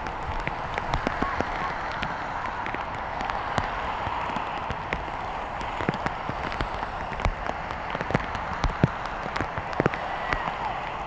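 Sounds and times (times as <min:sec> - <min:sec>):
heavy rain on water: 0:00.0 - 0:11.0
raindrops ticking: 0:00.0 - 0:11.0.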